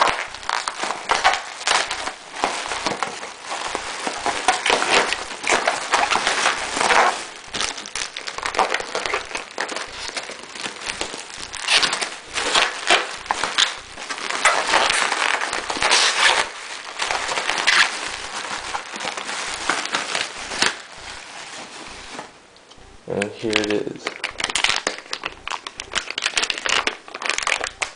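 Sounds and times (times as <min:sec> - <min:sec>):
packing material crinkling: 0:00.0 - 0:22.4, 0:23.1 - 0:27.9.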